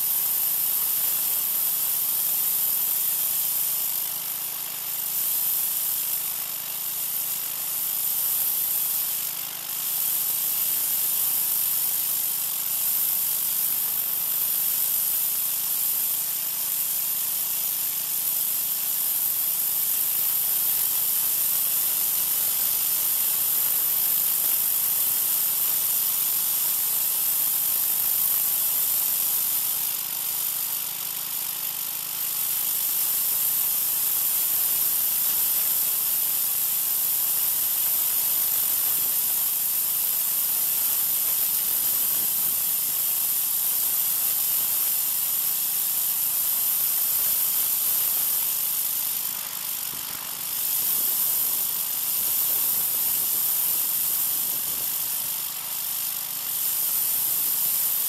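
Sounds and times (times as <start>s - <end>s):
pressure washer spray hissing: 0.0s - 58.0s
small engine running: 0.0s - 58.0s.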